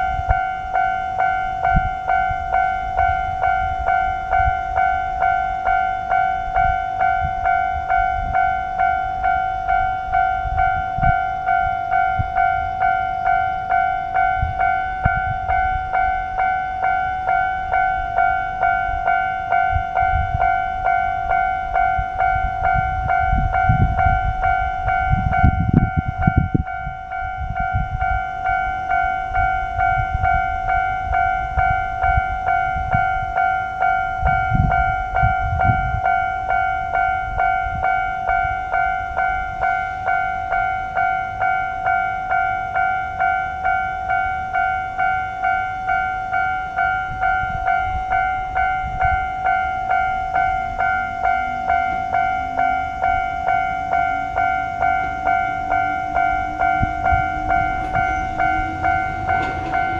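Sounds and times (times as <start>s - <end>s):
level crossing warning bell: 0.0s - 59.9s.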